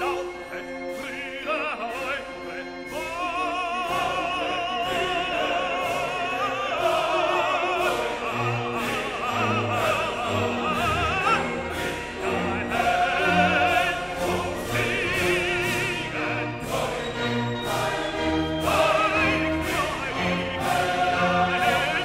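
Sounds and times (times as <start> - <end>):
operatic voice singing: 0.0 - 22.0
orchestral music with steady beat: 0.0 - 22.0.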